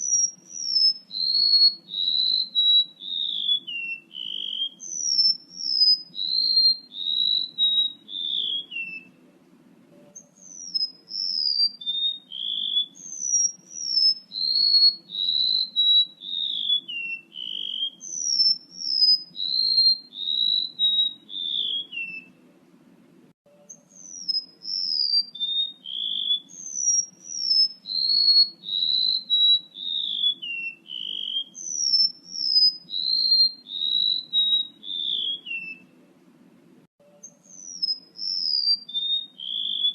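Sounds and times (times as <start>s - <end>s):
bird high whistled descending notes: 0.0s - 9.1s, 10.2s - 22.3s, 23.7s - 35.9s, 37.2s - 39.9s.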